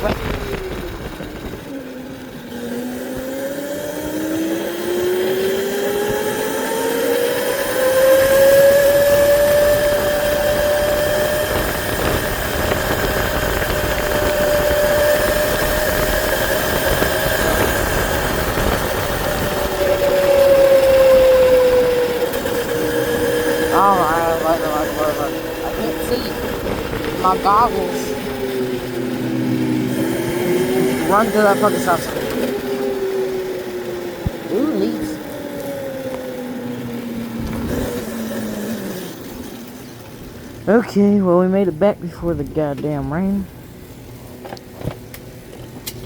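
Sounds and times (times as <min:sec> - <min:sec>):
motorbike engine accelerating: 0:00.0 - 0:40.8.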